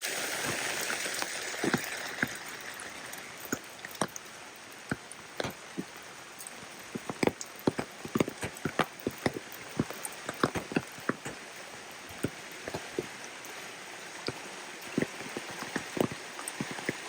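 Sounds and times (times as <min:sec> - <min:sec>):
rain hissing: 0:00.0 - 0:17.0
raindrops tapping on a surface: 0:00.0 - 0:17.0.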